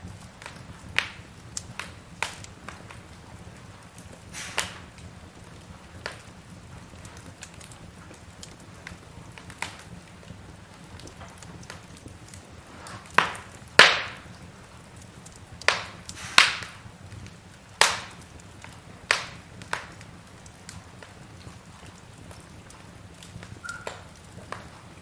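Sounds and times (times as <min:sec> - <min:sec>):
fire crackling: 0:00.0 - 0:25.0
low steady hiss: 0:00.0 - 0:25.0
sharp pops of burning logs: 0:00.0 - 0:25.0.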